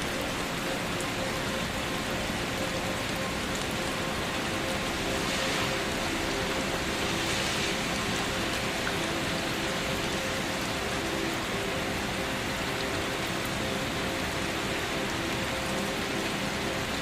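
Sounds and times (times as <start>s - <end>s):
gentle rain hiss: 0.0s - 17.0s.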